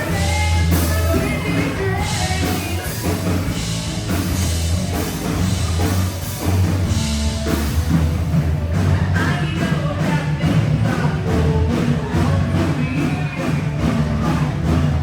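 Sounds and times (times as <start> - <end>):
rock music with drums: 0.0 - 15.0.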